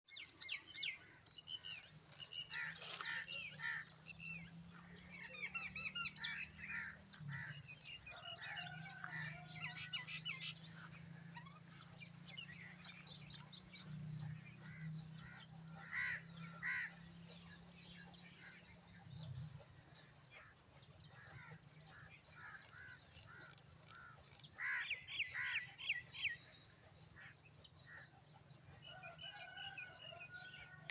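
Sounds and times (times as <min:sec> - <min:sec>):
birds chirping in chorus: 0:00.0 - 0:30.9.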